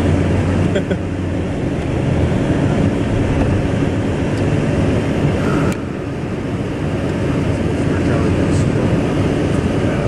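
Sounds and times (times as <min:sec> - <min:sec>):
road and engine rumble in cabin: 0:00.0 - 0:10.0.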